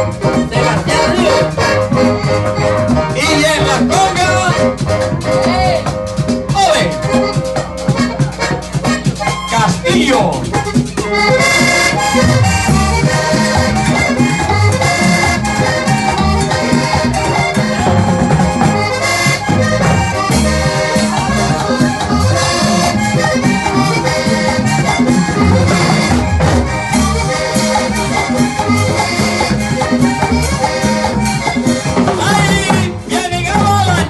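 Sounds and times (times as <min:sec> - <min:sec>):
accordion: 0:00.0 - 0:34.0
bass line: 0:00.0 - 0:34.0
percussion: 0:00.0 - 0:34.0.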